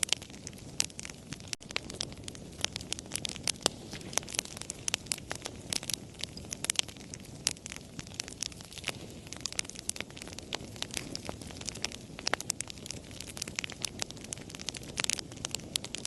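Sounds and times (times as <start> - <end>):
low rumble of burning: 0.0 - 16.0
wood fire crackling and popping: 0.0 - 16.0.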